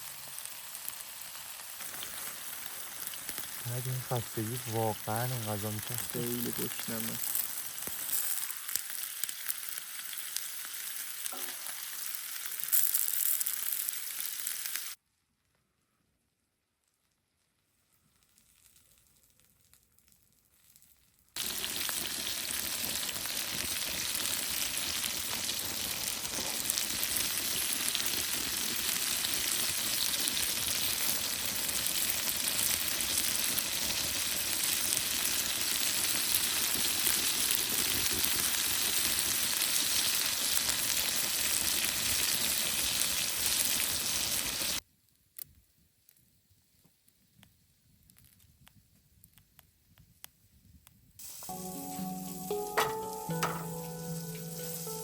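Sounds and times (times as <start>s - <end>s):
food sizzling in hot oil: 0.0s - 15.0s, 18.2s - 44.8s, 51.2s - 55.0s.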